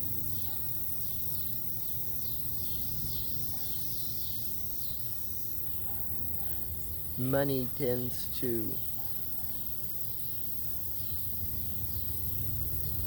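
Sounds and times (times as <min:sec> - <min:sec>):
insects chirping: 0:00.1 - 0:13.0.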